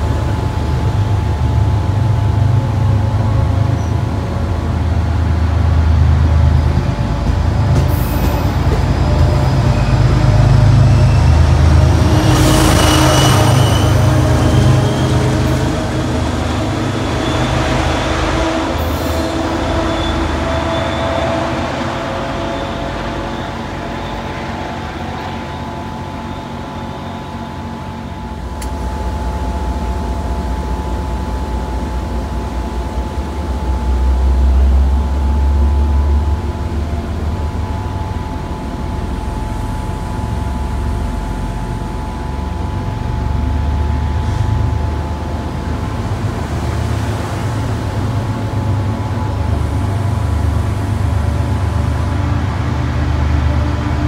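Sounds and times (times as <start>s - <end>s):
diesel locomotive engine drone: 0.0s - 54.0s
train wheels rumbling on rail: 0.0s - 54.0s.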